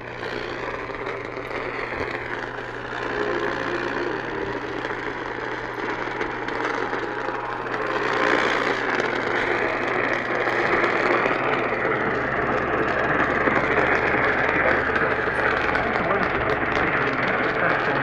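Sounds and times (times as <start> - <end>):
low hum: 0.0 - 18.0
radio static hiss: 0.0 - 18.0.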